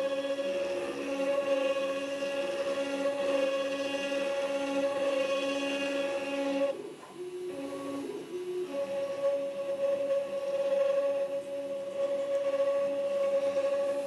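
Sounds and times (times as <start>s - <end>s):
cnc router spindle whine: 0.0s - 14.0s
stepper motor tones: 0.0s - 14.0s.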